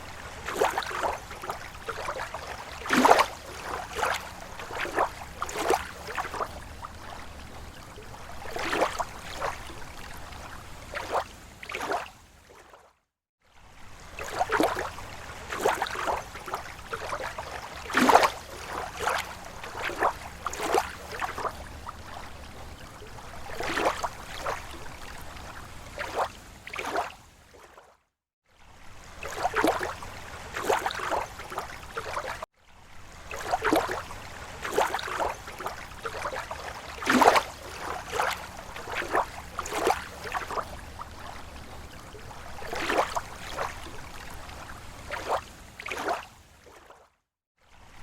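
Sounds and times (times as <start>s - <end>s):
small waves lapping at shore: 0.0s - 48.0s.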